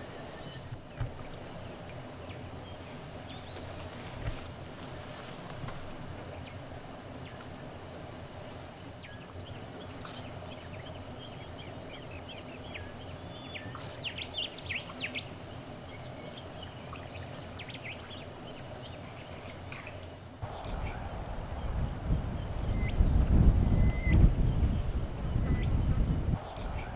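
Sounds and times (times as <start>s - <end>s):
wild birds calling: 0.0s - 26.9s.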